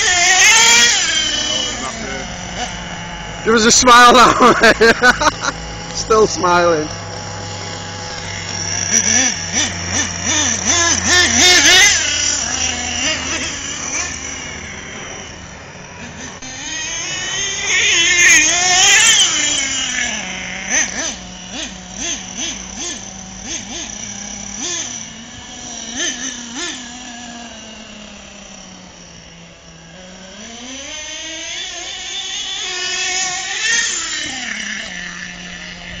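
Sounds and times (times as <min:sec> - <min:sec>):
model truck engine revving: 0:00.0 - 0:36.0.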